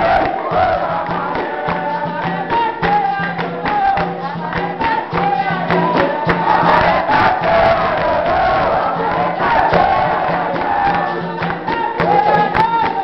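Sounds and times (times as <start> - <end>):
group singing in chorus: 0.0 - 13.0
hand percussion: 0.0 - 13.0.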